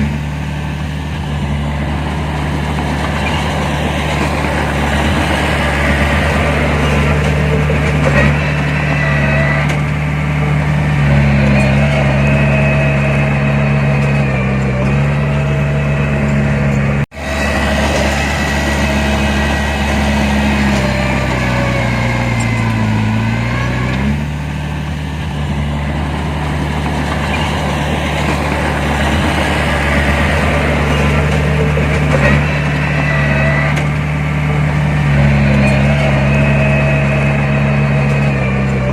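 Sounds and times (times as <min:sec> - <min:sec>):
heavy diesel machinery engine: 0:00.0 - 0:38.9.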